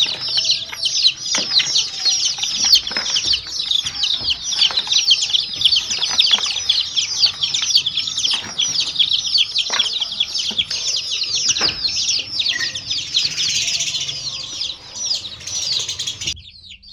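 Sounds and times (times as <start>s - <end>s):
baby chicks peeping: 0.0s - 16.9s.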